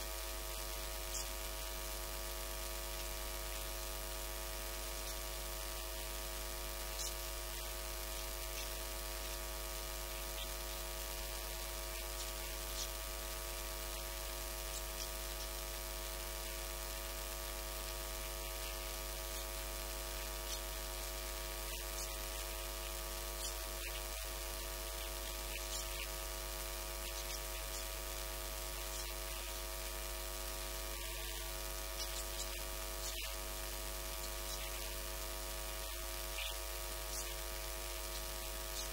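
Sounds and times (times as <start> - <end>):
constant hiss: 0.0 - 38.9
electrical mains hum: 0.0 - 38.9.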